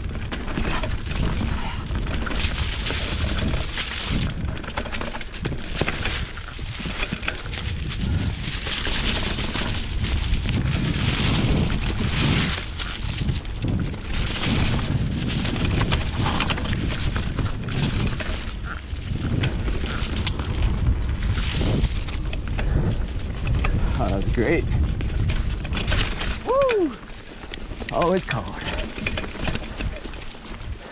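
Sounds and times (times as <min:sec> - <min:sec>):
bike knocking and rattling: 0:00.0 - 0:30.9
wind buffeting microphone: 0:00.0 - 0:30.9
tyres crunching over leaves: 0:00.4 - 0:30.9.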